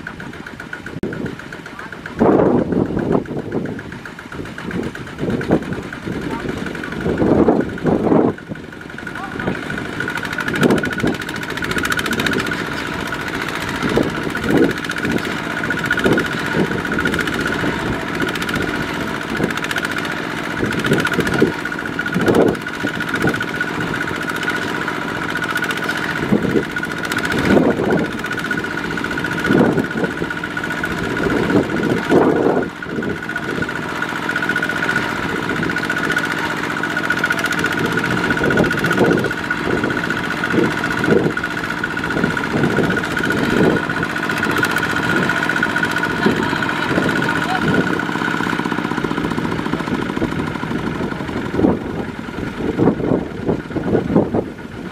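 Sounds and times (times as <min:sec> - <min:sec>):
diesel engine under heavy load: 0:00.0 - 0:54.9.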